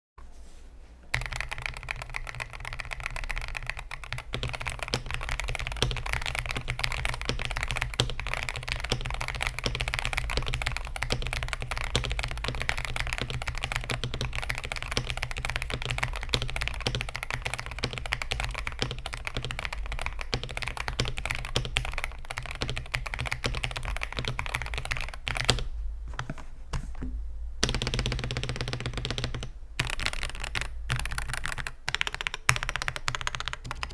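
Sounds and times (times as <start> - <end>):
mechanical keyboard typing: 1.1 - 25.7, 27.6 - 33.9.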